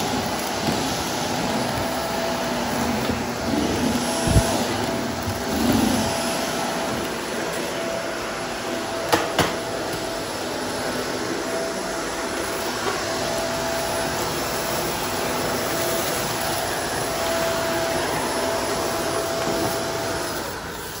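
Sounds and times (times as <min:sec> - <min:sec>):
upright vacuum running: 0:00.0 - 0:21.0.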